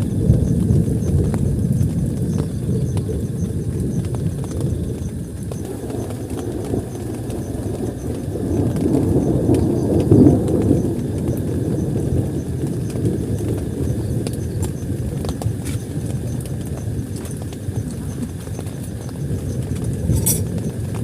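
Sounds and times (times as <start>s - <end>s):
heavy rain on a tent: 0.0s - 21.0s.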